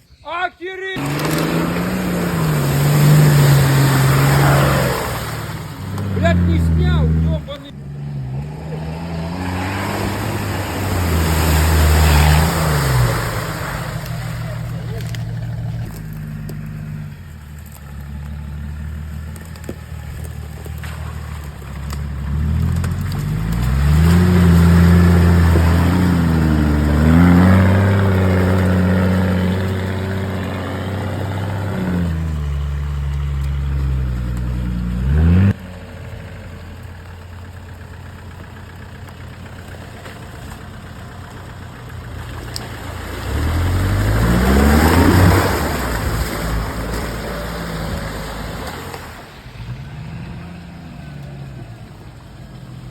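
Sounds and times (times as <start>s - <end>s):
engine idling and revving: 1.0s - 52.9s.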